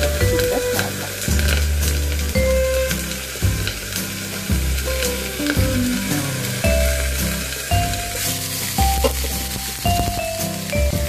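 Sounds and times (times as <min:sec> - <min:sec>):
background music: 0:00.0 - 0:11.0
chicken sizzling in a pan: 0:00.0 - 0:11.0.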